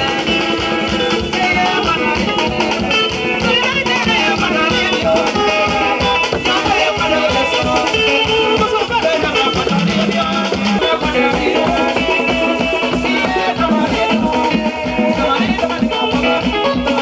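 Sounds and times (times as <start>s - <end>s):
djembe hand drums: 0.0s - 17.0s
person singing: 0.0s - 17.0s.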